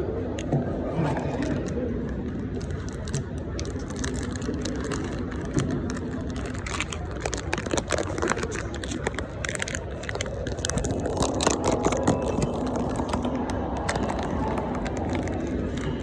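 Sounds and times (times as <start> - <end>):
cardboard packaging crinkling: 2.4 - 16.0.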